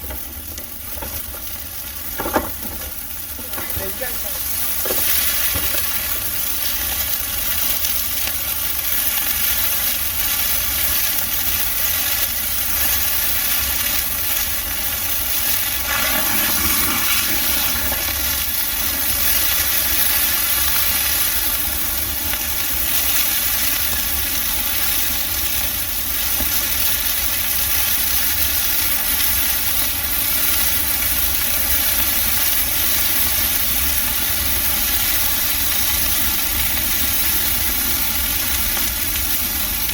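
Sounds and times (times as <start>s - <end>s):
bonfire burning: 0.0s - 39.9s.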